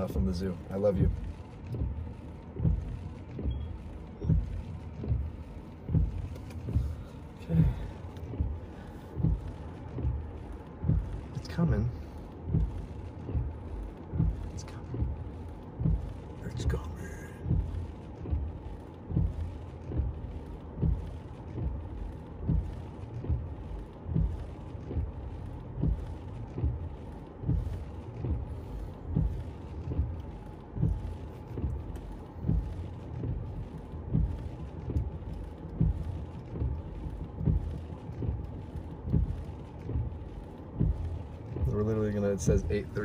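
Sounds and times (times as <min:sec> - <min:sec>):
car engine idling: 0:00.0 - 0:43.0
soft low thumps: 0:00.0 - 0:43.0.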